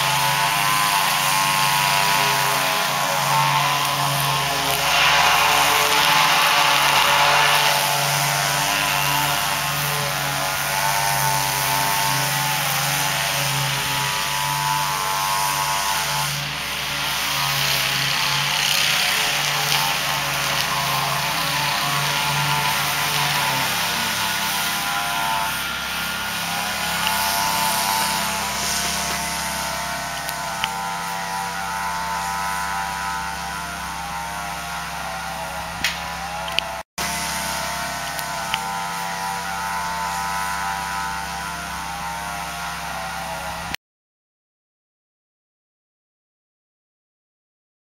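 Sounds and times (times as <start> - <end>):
lawn mower engine running: 0.0 - 43.8.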